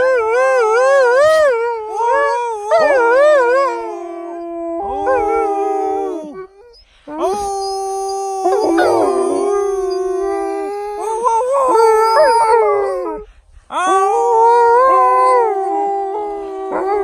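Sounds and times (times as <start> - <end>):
dogs howling: 0.0 - 17.0.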